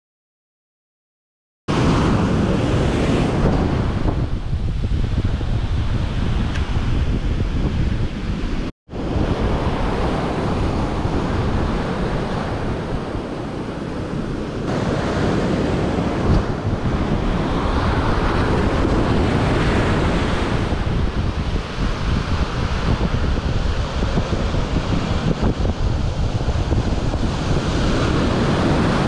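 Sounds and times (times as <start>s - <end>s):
surf breaking on beach: 1.7s - 7.6s, 8.2s - 29.0s
wind buffeting microphone: 1.7s - 29.0s.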